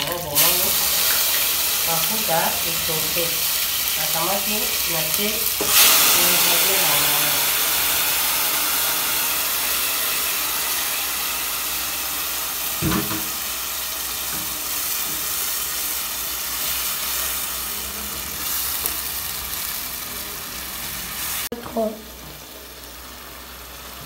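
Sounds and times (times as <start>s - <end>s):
vegetables sizzling in pot: 0.0s - 24.0s.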